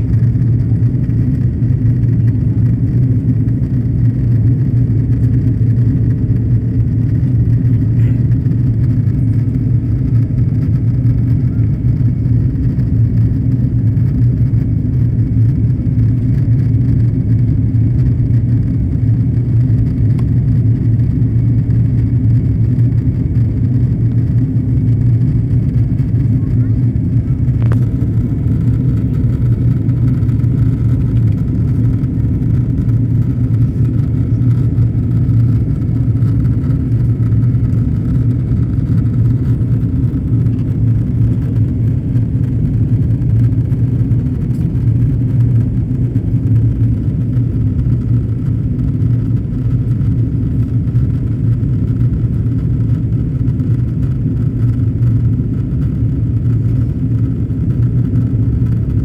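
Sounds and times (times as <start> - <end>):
airflow over fuselage: 0.0 - 59.0
jet engine rumble in cabin: 0.0 - 59.0.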